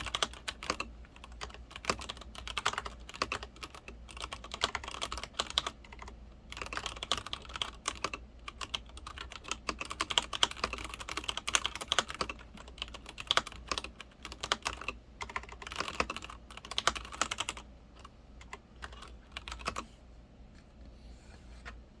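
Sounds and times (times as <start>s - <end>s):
mechanical keyboard typing: 0.0s - 19.9s.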